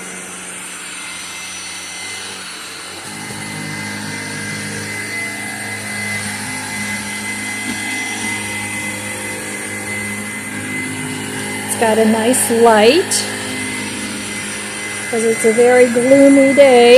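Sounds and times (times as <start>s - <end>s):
stick vacuum running: 0.0s - 16.9s.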